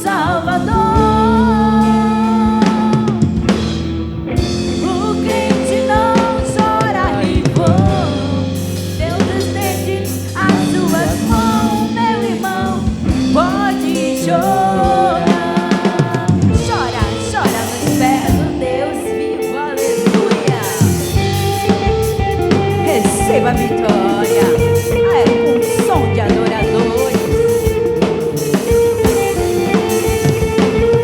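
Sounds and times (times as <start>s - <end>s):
gospel band music: 0.0s - 31.0s
person singing melody: 4.8s - 31.0s.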